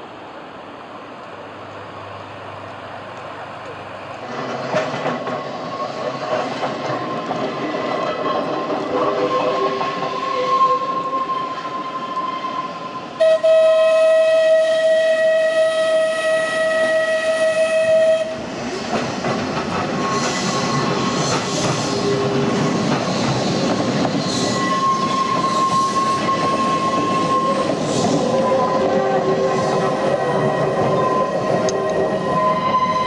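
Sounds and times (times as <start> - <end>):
tram wheels squealing on track: 4.0 - 33.0.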